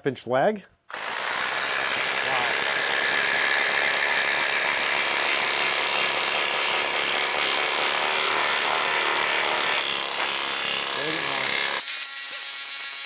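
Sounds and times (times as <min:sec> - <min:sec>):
impact drivers hammering: 0:00.9 - 0:11.8.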